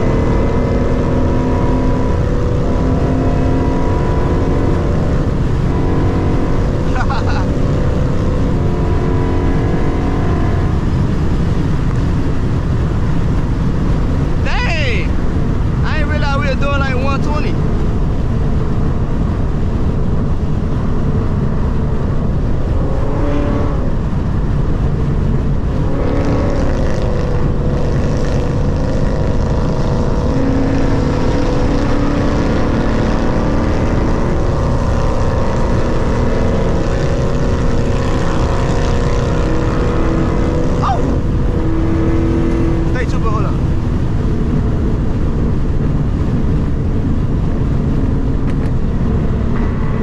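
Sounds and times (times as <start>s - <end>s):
car engine drone: 0.0s - 50.0s
road noise: 0.0s - 50.0s.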